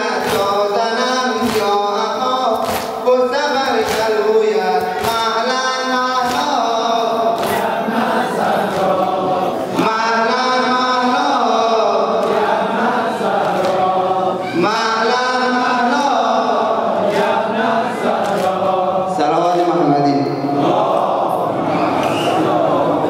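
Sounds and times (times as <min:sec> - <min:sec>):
men chanting a lament: 0:00.0 - 0:23.0.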